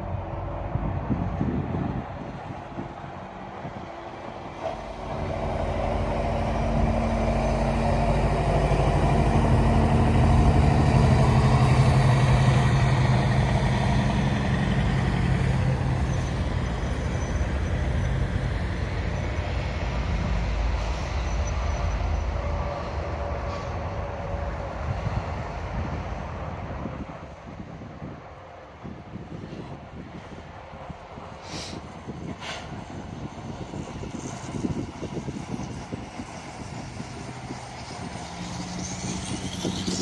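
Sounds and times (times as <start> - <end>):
diesel truck engine drone: 0.0 - 40.0.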